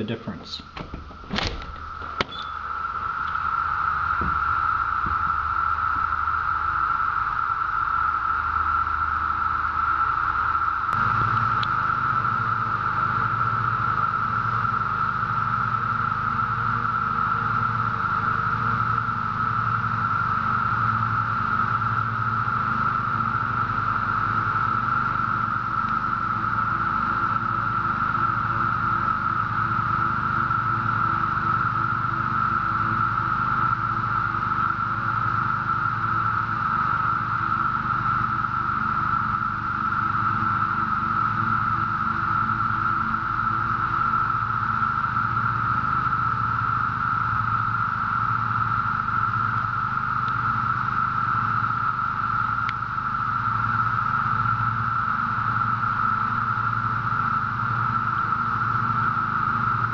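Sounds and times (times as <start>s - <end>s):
cicadas droning: 0.0s - 59.9s
low hum: 0.0s - 59.9s.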